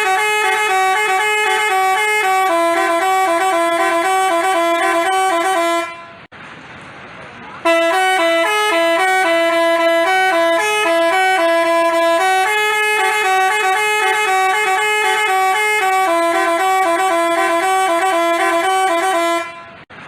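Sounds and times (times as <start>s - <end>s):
multi-trumpet bus horn tune: 0.0s - 6.3s, 7.6s - 20.0s.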